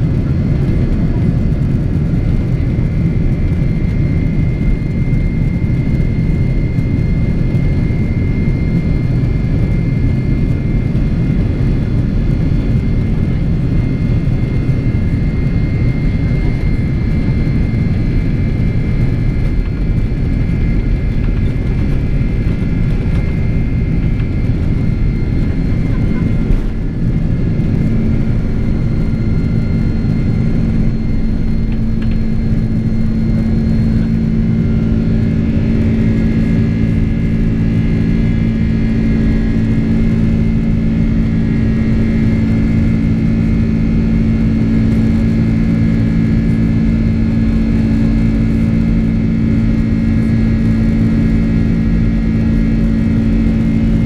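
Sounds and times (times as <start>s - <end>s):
high engine whines: 0.0s - 54.0s
jet engine cabin rumble: 0.0s - 54.0s.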